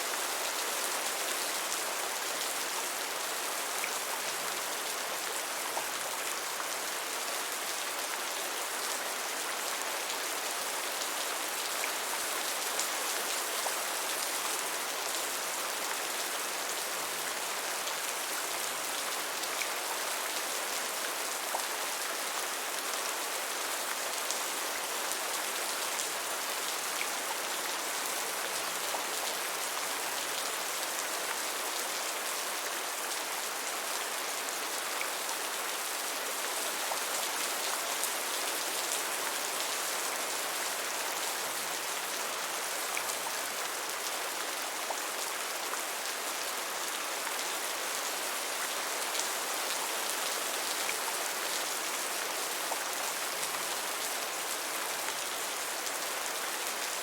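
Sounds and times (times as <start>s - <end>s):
gentle rain hiss: 0.0s - 57.0s.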